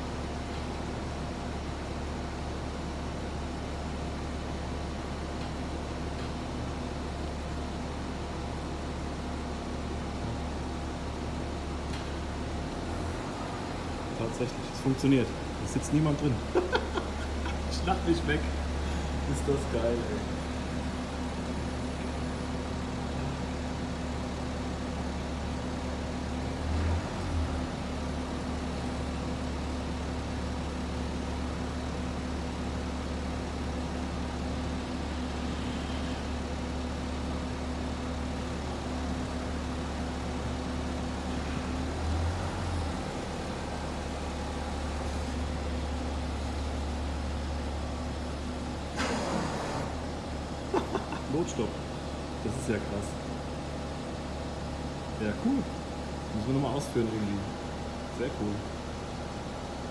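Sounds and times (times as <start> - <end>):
diesel car engine idling: 0.0 - 49.0, 49.8 - 59.9.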